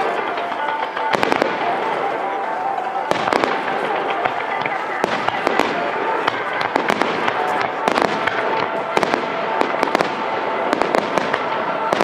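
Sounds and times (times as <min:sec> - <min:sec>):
firework crackle: 0:00.0 - 0:12.0.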